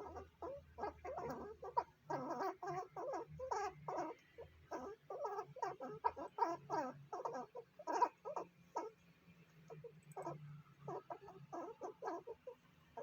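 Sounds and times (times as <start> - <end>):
squirrel squeaking calls: 0.0 - 9.0, 9.8 - 13.0.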